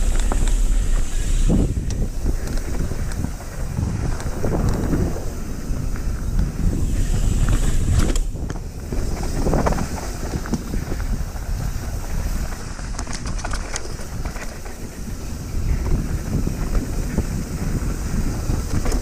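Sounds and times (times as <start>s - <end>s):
bike clicks and rattles: 0.0s - 19.0s
bike rolling on dirt trail: 0.0s - 19.0s
wind buffeting microphone: 0.0s - 19.0s.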